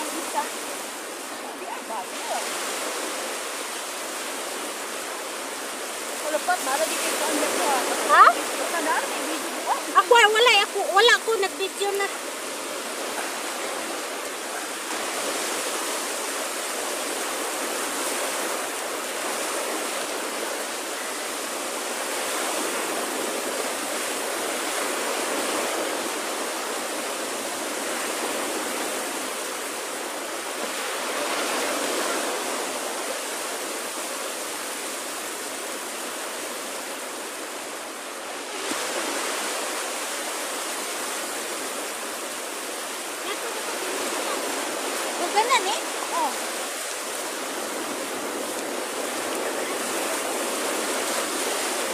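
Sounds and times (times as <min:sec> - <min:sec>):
small waves breaking on beach: 0:00.0 - 0:51.9.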